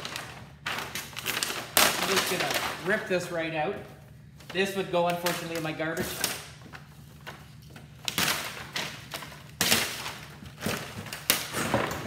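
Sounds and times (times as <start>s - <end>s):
plastic sheet crumpling: 0.0s - 3.6s, 4.4s - 12.0s.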